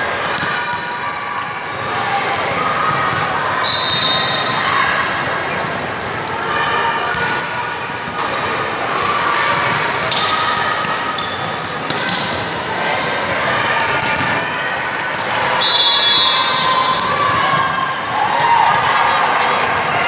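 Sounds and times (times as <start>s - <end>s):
players talking and calling out: 0.0s - 20.0s.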